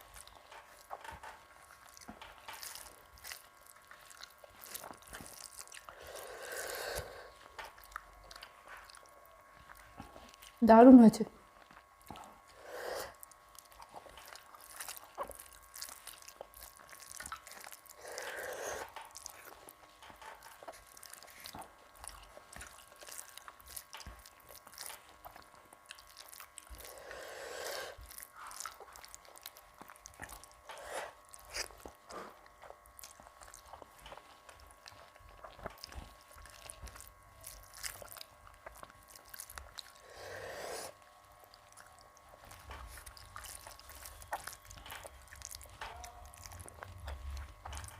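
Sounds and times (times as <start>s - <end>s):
person chewing food: 0.0s - 10.6s, 11.4s - 47.9s.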